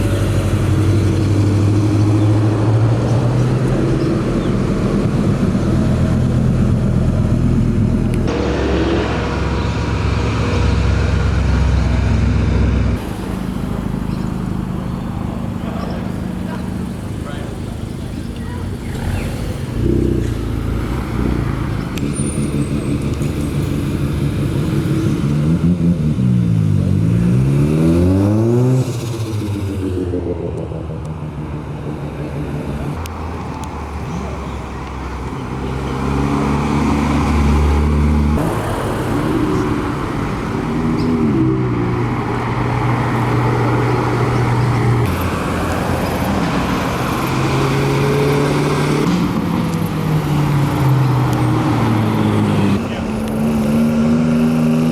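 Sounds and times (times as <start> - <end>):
car engine revving: 0.0 - 54.9
cars driving slowly past: 0.0 - 54.9.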